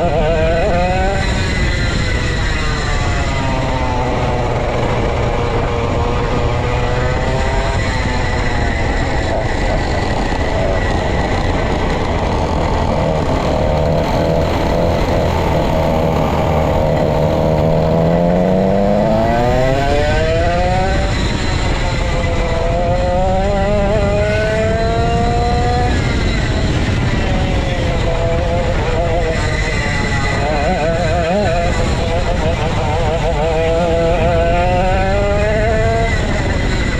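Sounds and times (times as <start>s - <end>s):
go-kart engine running hard: 0.0s - 36.9s.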